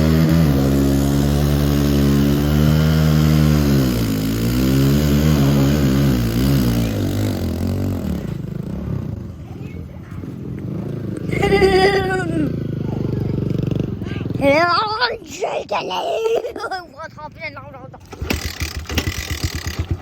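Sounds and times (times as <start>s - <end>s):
dirt bike engine revving: 0.0s - 9.4s, 10.4s - 14.9s, 18.0s - 20.0s.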